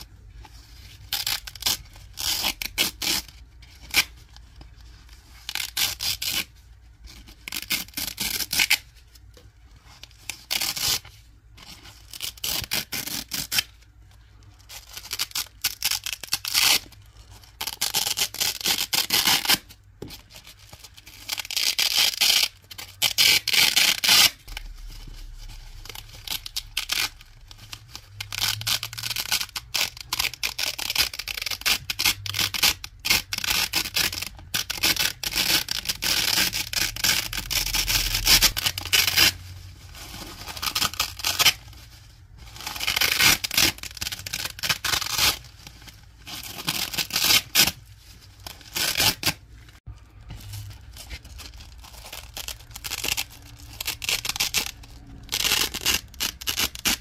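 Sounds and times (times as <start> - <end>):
velcro ripping apart: 0.9 - 4.2, 5.4 - 9.0, 10.0 - 11.2, 12.0 - 13.8, 14.7 - 19.8, 20.4 - 49.8, 50.5 - 57.0.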